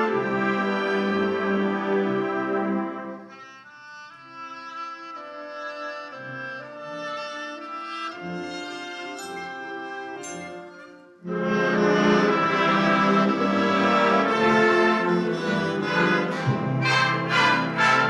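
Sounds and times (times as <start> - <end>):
concert wind band playing: 0.0 - 18.0.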